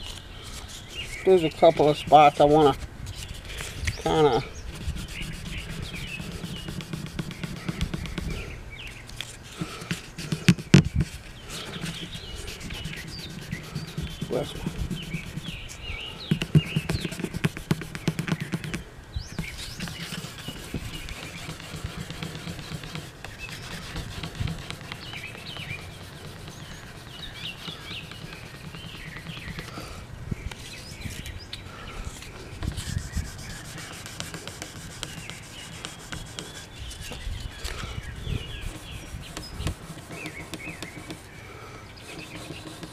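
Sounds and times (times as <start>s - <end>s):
birds chirping: 0.0s - 42.9s
sandpaper scrubbing on wood: 0.4s - 8.5s, 9.2s - 30.0s, 32.1s - 37.2s, 38.1s - 41.3s, 42.0s - 42.9s.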